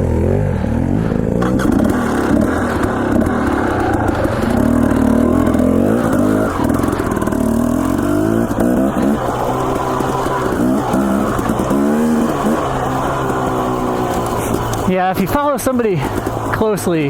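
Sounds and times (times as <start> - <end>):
dirt bike engine revving: 0.0 - 17.0
bike clattering over rocks: 1.4 - 17.0.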